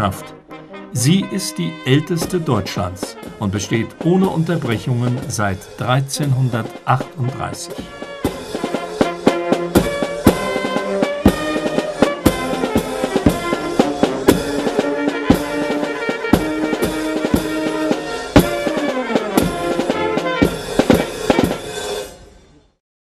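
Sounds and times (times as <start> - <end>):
wind band playing: 0.0 - 22.1
snare and bass drum beat: 1.0 - 21.8.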